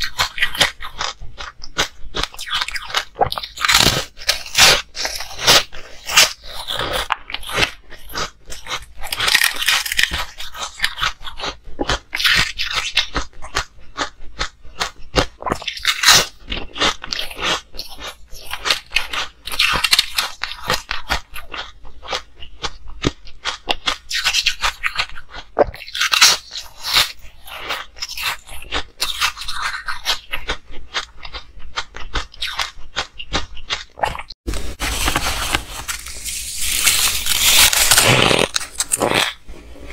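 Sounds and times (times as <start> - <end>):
ice being chewed: 0.0 - 34.4, 35.0 - 39.9.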